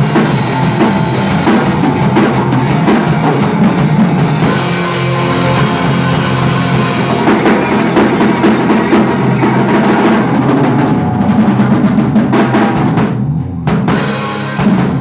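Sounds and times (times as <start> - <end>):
drum fills on snare and bass drum: 0.0 - 15.0
live rock band playing: 0.0 - 15.0.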